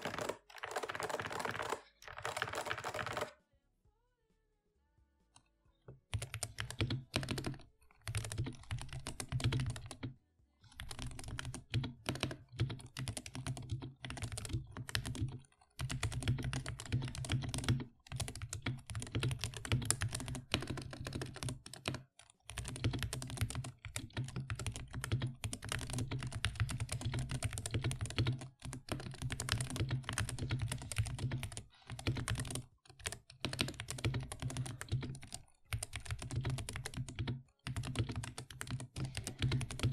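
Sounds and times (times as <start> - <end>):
mechanical keyboard typing: 0.0 - 3.4, 6.0 - 39.9.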